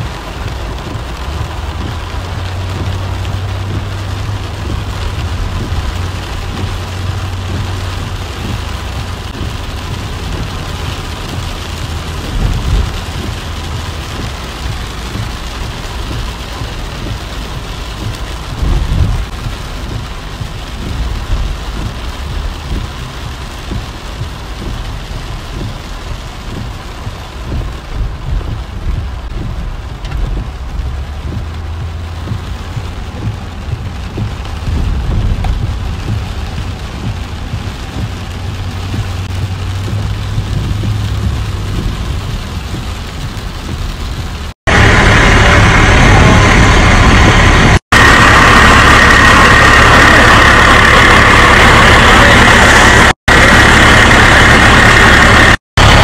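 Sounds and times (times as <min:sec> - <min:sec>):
low thumps: 0:00.0 - 0:53.6
car driving drone: 0:00.0 - 0:56.0
heavy rain drumming on car: 0:00.0 - 0:56.0.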